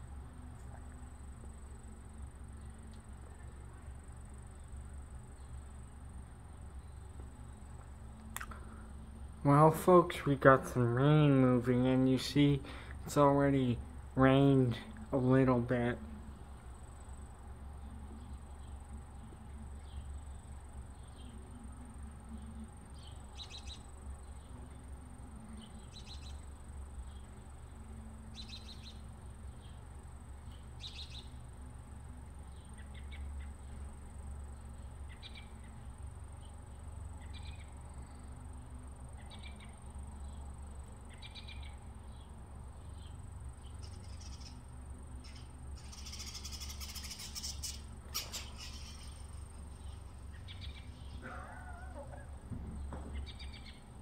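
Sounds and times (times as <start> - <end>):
small birds chirping: 0.4 - 54.0.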